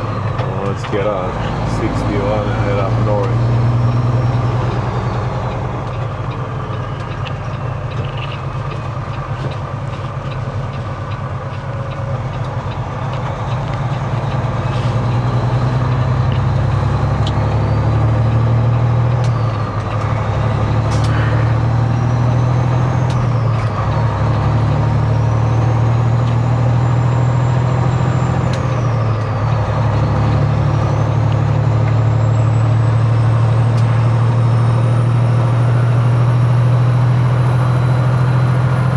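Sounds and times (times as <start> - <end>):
diesel truck engine accelerating: 0.0 - 38.9.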